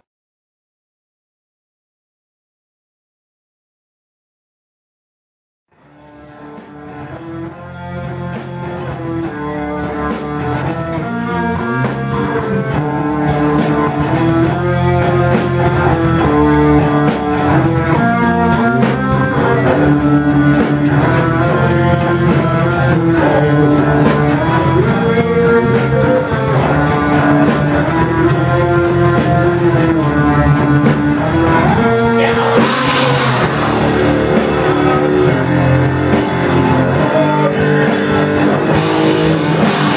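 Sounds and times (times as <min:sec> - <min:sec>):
distorted electric guitar riff: 0:05.7 - 0:39.9
heavy metal band playing: 0:05.7 - 0:39.9.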